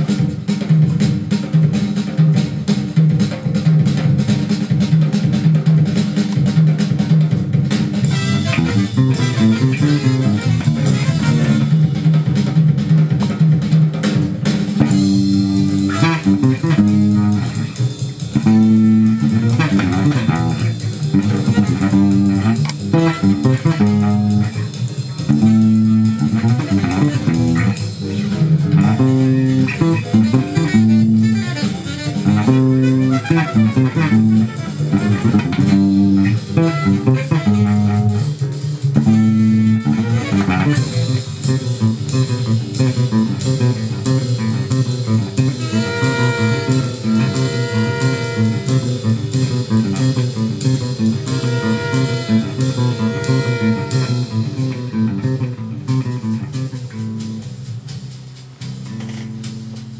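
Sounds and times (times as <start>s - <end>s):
fingerpicked bass guitar jazz line: 0.0s - 59.9s.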